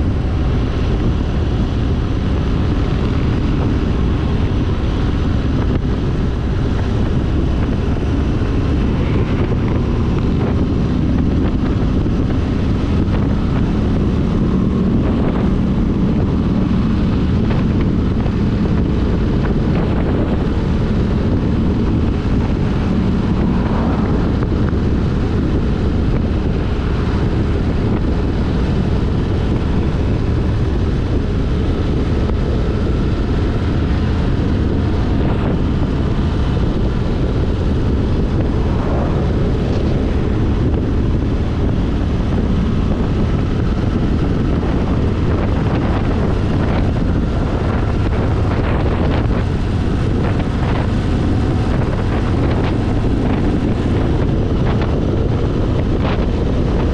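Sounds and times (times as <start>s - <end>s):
motorcycle engine cruising: 0.0s - 56.9s
wind noise on microphone: 0.0s - 56.9s.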